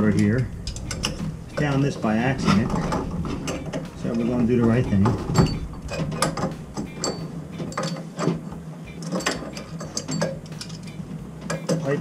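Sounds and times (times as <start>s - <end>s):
low steady hum: 0.0s - 12.0s
wrench clicking and ratcheting: 0.1s - 1.9s, 2.6s - 12.0s.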